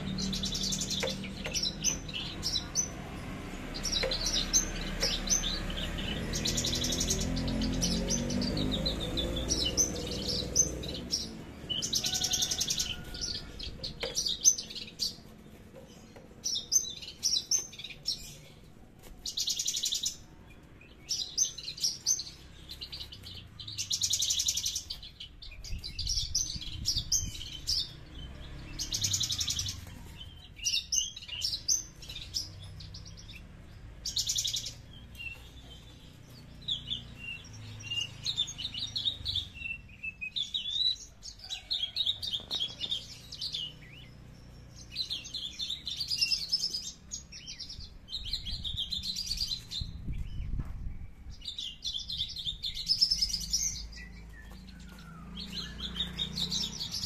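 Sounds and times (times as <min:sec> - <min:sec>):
bird singing buzzy trills: 0:00.0 - 0:57.0
high bird chirps: 0:00.0 - 0:57.0.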